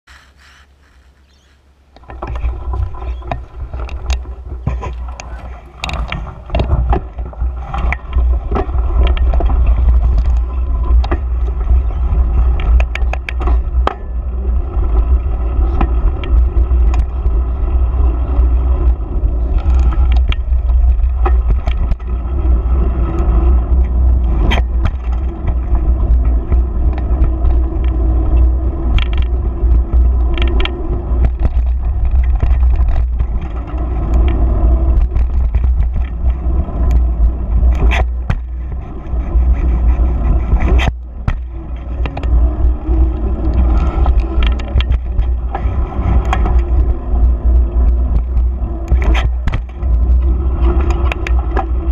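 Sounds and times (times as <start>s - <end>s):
tyre rolling rumble: 2.0s - 51.9s.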